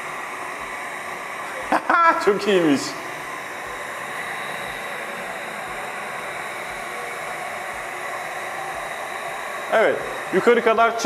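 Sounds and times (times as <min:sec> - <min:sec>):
suction fan hissing with high whine: 0:00.0 - 0:11.0.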